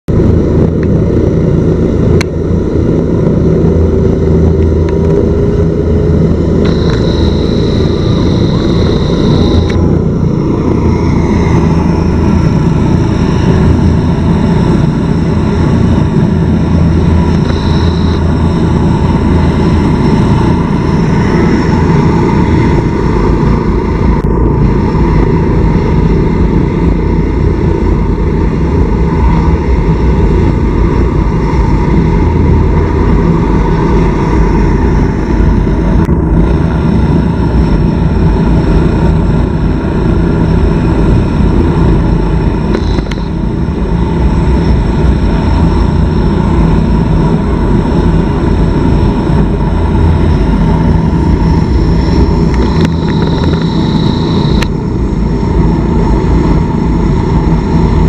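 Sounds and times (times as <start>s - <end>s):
helicopter rotors and turbines running: 0.0s - 58.0s.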